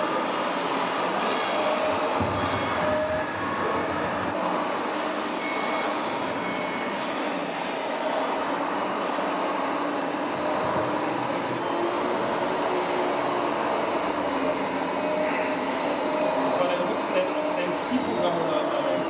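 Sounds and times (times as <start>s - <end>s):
thin motor whines: 0.0s - 19.0s.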